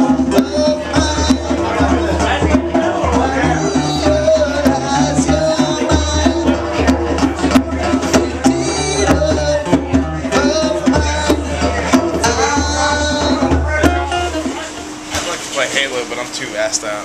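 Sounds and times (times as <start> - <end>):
man singing into a microphone: 0.0 - 14.6
deep bass: 0.0 - 14.7
acoustic guitar strumming: 0.0 - 17.0.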